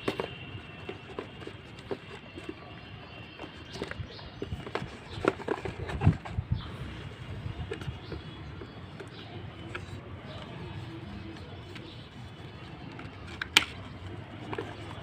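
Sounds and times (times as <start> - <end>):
handling clicks and taps: 0.0 - 6.3, 7.5 - 15.0.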